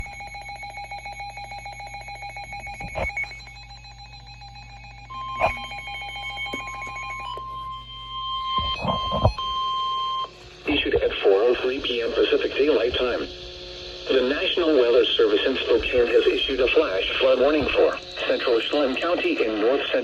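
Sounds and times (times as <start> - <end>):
pulsing electronic ringing: 0.0 - 20.0
steady alarm tone: 0.0 - 20.0.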